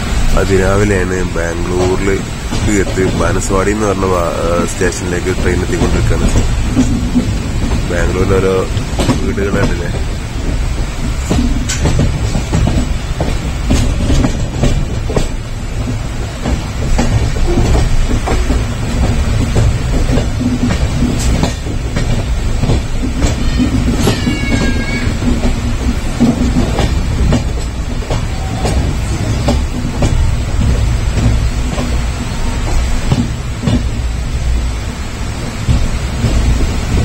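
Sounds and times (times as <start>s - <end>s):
train low rumble: 0.0s - 37.0s
wheels clacking over rail joints: 0.0s - 37.0s.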